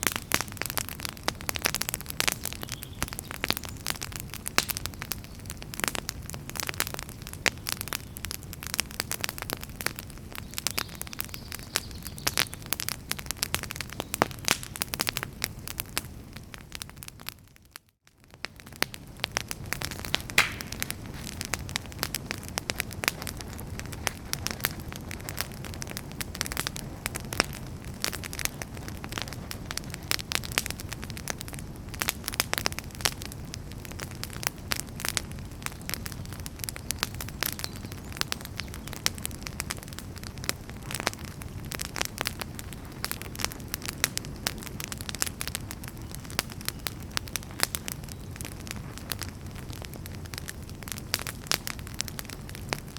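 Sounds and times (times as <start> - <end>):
fire crackling and popping: 0.0 - 52.9
low rumble of burning: 0.0 - 52.9.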